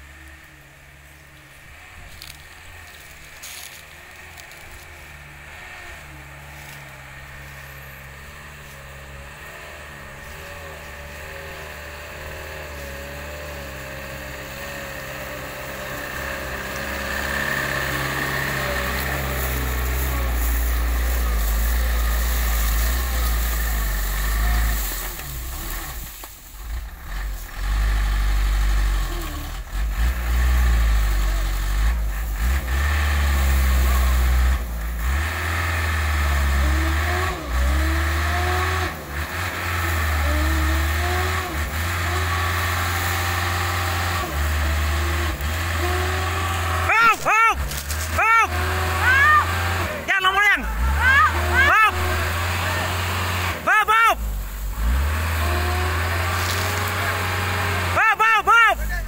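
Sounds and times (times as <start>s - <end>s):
truck engine approaching and revving: 0.0s - 59.0s.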